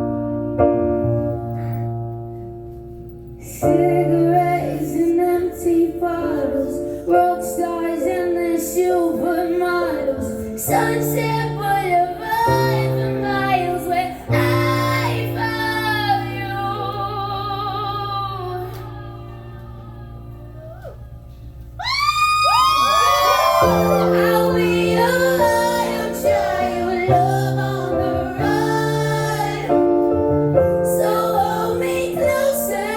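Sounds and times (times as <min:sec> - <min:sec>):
piano chords: 0:00.0 - 0:32.9
woman singing a ballad: 0:03.4 - 0:21.2, 0:22.5 - 0:29.9, 0:30.9 - 0:32.9.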